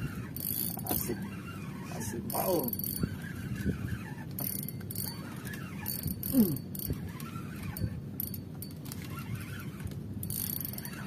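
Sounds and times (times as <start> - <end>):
spinning reel cranking: 0.0 - 11.0
steady low hum: 0.0 - 11.0.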